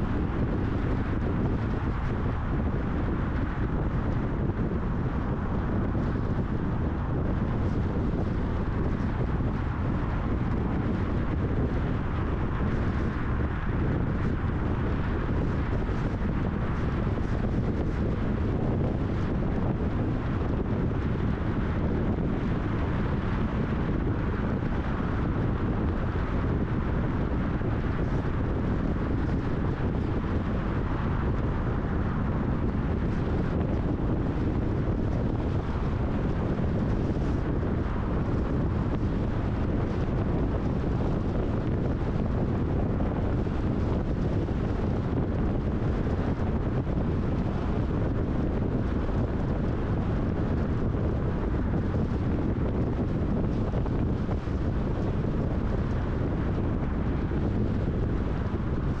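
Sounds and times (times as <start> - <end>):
car tyre noise on highway: 0.0 - 59.0
wind buffeting microphone: 0.0 - 59.0.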